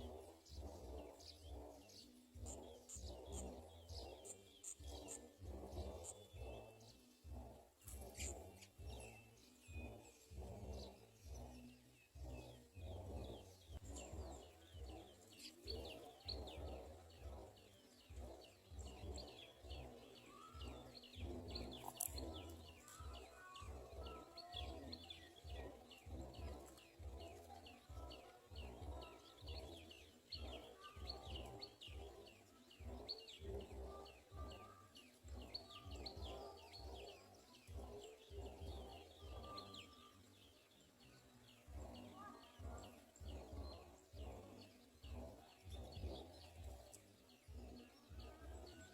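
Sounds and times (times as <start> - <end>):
low pulsing rumble: 0.0 - 48.9
small birds chirping: 0.0 - 48.9.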